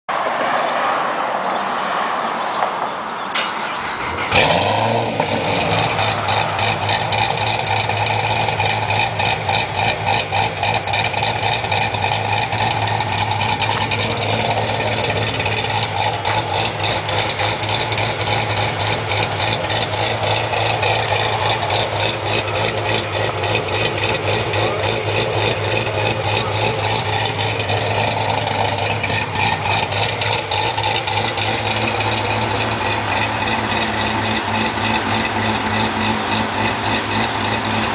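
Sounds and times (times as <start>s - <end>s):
engine cranking and starting: 3.4s - 37.9s
choppy engine idle: 3.5s - 37.9s.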